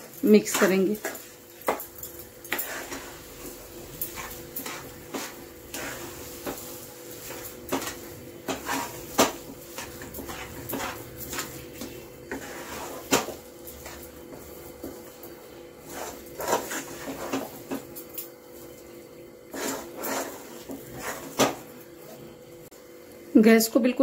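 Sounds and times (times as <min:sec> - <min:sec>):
spatula scraping a pan: 0:00.0 - 0:17.9, 0:19.4 - 0:22.3.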